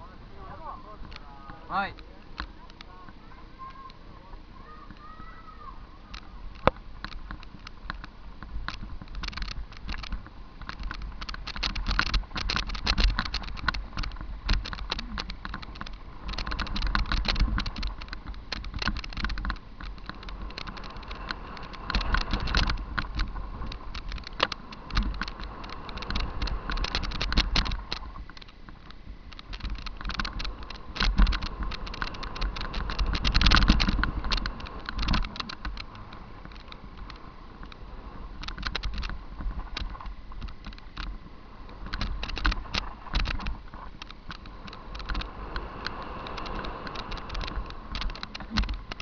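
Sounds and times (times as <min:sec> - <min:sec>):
tyre and wind rumble: 0:00.0 - 0:49.0
bike rattling over bumps: 0:06.0 - 0:49.0.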